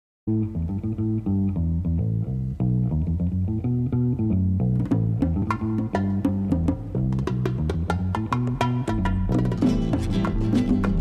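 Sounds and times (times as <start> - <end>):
plucked bass and guitar: 0.3 - 11.0.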